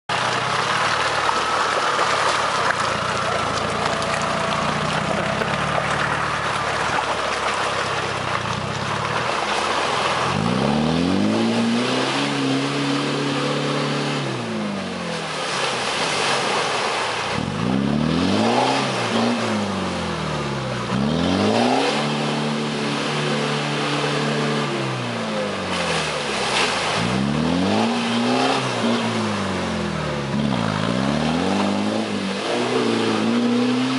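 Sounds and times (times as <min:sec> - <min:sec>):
truck engine revving: 0:00.2 - 0:15.6, 0:17.4 - 0:33.9.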